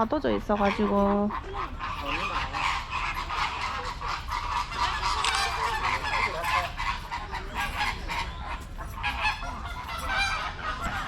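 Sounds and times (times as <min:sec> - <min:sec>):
flamingos honking: 0:00.0 - 0:11.0.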